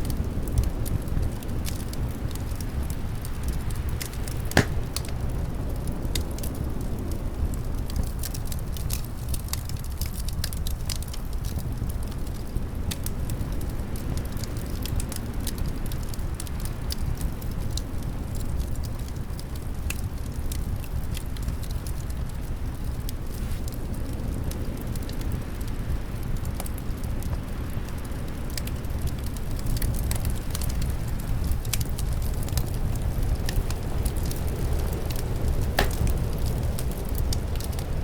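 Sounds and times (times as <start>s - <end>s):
low rumble of wind: 0.0s - 38.0s
wood fire crackling: 0.0s - 38.0s.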